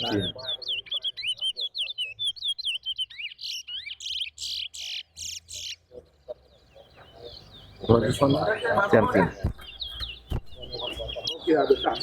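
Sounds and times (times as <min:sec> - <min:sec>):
finch singing whistled notes: 0:00.0 - 0:12.0.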